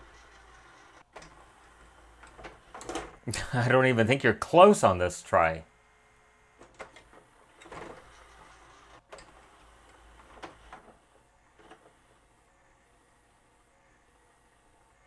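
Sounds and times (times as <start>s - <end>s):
faint motor whirring: 0.0s - 15.0s.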